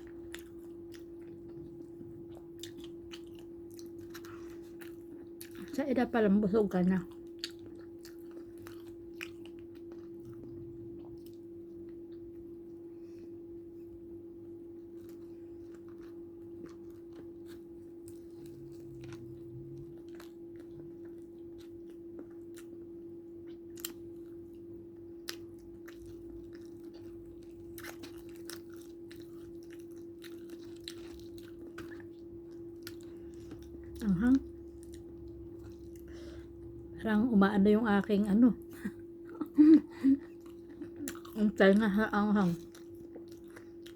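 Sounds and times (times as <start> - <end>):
person chewing crispy chicken: 0.0 - 36.9, 38.6 - 43.9
steady hum: 0.0 - 43.9.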